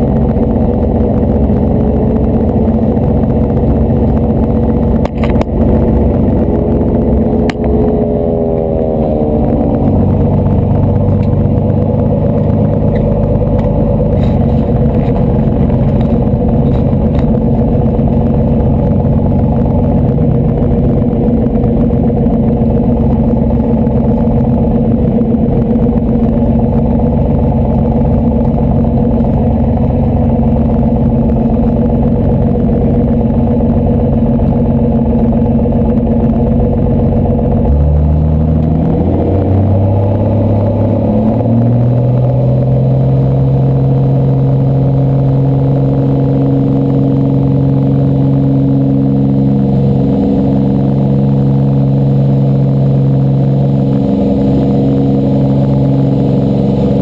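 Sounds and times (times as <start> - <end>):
propeller plane engine running: 0.0 - 57.0.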